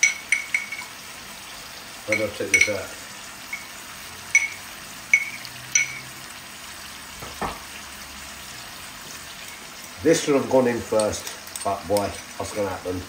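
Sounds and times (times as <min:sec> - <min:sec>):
curry sizzling in a pot: 0:00.0 - 0:13.0.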